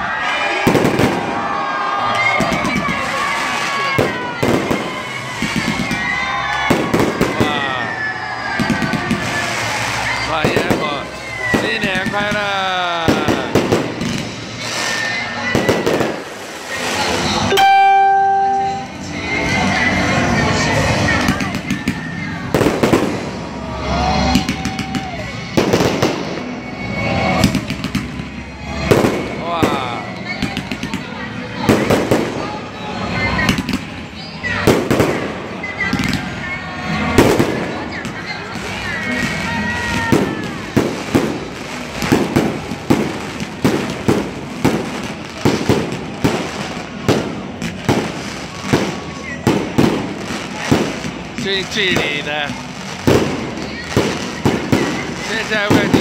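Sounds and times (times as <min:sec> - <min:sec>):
fireworks bangs and crackling: 0:00.1 - 0:56.0.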